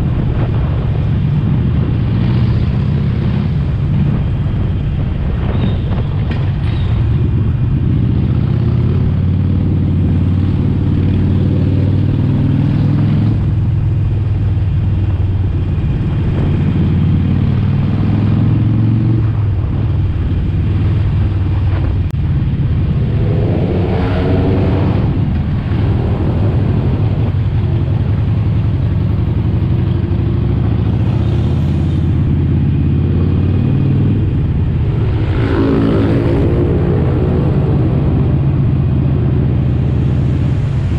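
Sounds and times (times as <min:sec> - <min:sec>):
motorcycle engine on the road: 0:00.0 - 0:40.9
motorcycle engine revving: 0:05.4 - 0:40.9.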